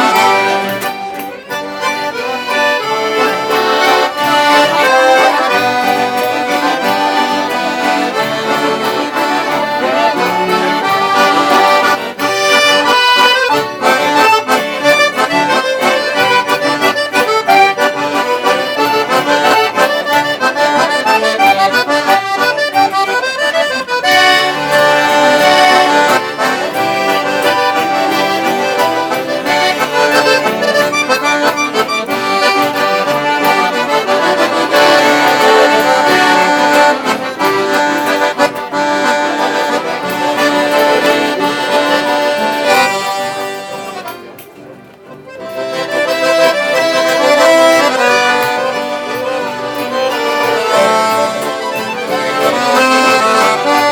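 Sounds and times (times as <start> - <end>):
accordions playing folk tune: 0.0 - 53.9.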